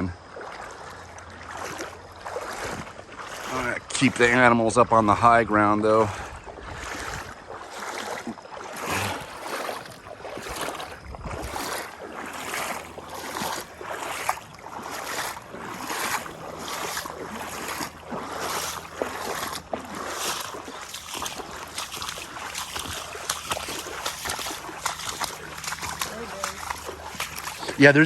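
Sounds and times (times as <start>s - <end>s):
water sloshing: 0.0s - 28.0s.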